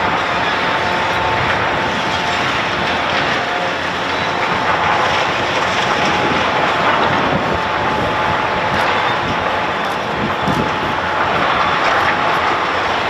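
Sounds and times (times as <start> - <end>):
faint constant whine: 0.0 - 13.0
heavy machinery running: 0.0 - 13.0.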